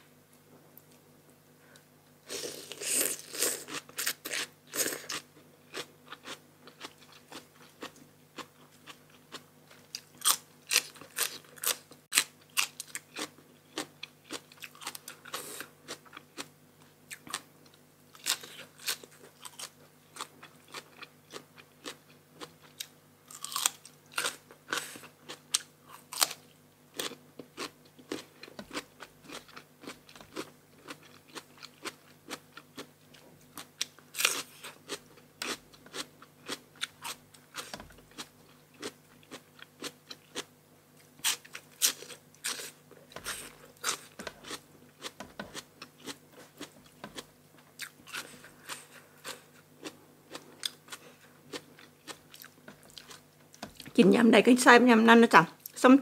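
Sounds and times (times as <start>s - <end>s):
crunchy food chewing: 2.3s - 16.5s, 17.1s - 54.0s.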